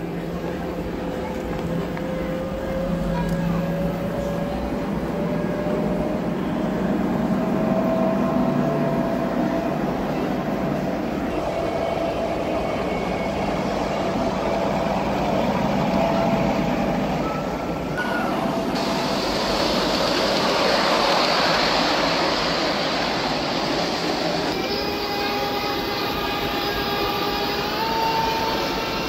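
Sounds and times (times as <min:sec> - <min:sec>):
hall background noise: 0:00.0 - 0:29.0
model trains whirring and rattling: 0:00.0 - 0:29.0.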